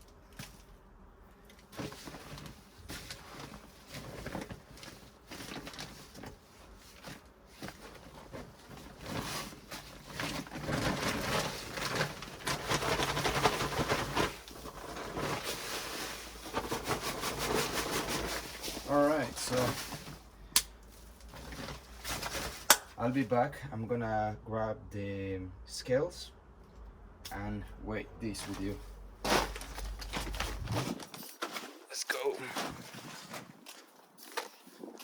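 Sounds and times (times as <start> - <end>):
soil and grow bag rustling: 1.6 - 23.5, 28.2 - 35.0.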